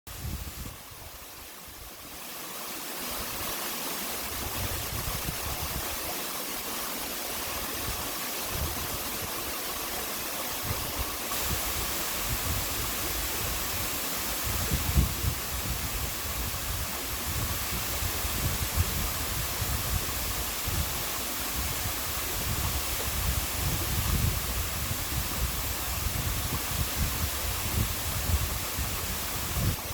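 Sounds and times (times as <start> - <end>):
waterfall rushing: 0.6 - 29.9.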